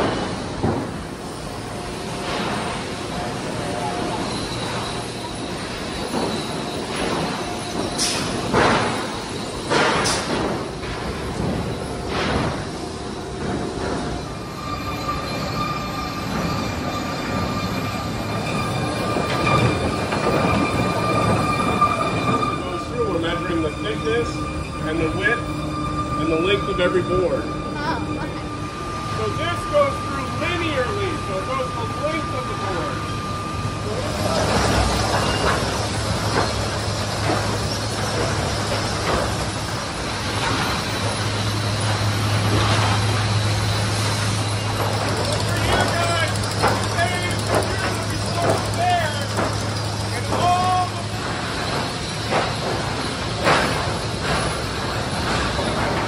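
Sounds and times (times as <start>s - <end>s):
high whine: 0.0s - 56.0s
sawmill machinery running: 0.0s - 56.0s.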